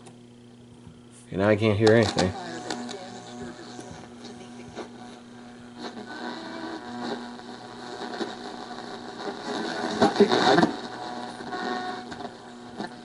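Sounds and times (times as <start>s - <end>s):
steady low hum: 0.0s - 13.0s
radio static: 1.2s - 13.0s.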